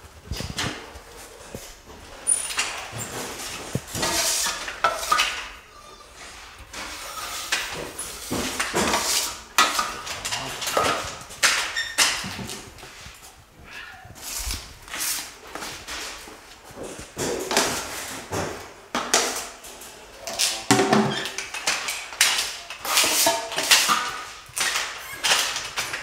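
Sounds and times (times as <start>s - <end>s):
drywall tools scraping and clattering: 0.0s - 13.4s, 14.2s - 26.0s.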